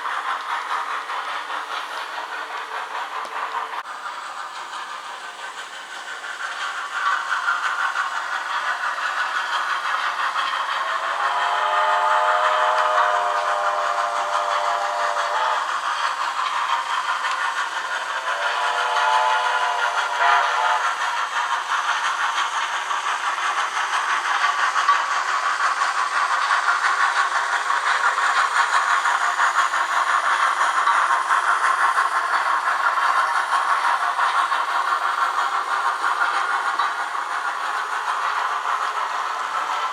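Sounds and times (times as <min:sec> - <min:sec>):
model train mechanism noise: 0:00.0 - 0:39.9
steam chuffing and hiss from speaker: 0:00.0 - 0:39.9.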